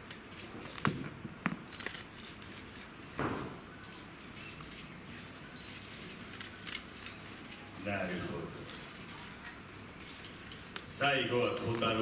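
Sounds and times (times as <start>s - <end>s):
hushed hall ambience: 0.0s - 12.0s.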